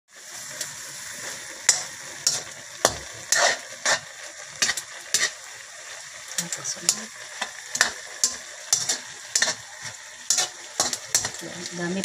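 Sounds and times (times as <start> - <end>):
pan sizzling: 0.1 - 12.0
metal ladle scraping wok: 1.0 - 5.6, 6.9 - 12.0.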